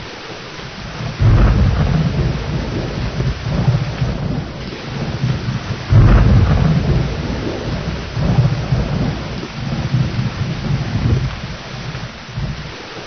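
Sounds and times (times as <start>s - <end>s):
rain falling: 0.0s - 13.0s
thunder rumbling: 0.7s - 13.0s.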